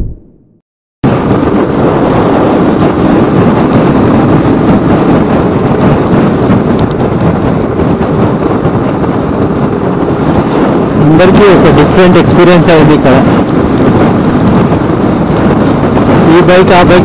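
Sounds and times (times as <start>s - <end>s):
wind noise: 0.0s - 0.3s, 1.0s - 17.0s.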